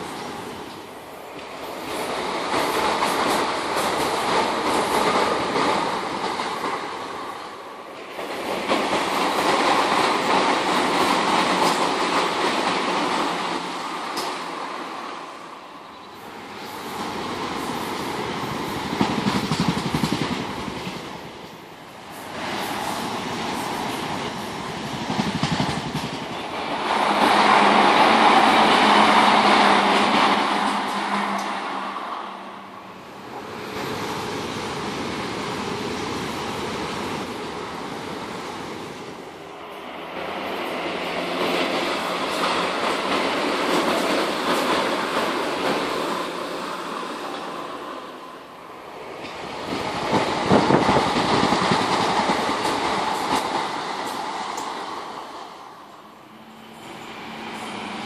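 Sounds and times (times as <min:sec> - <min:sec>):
train wheel and rail rush: 0:00.0 - 0:58.0.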